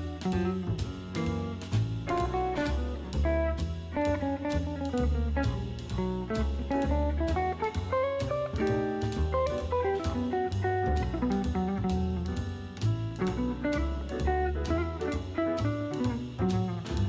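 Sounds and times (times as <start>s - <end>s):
plucked guitar with drums and bass: 0.0s - 17.0s.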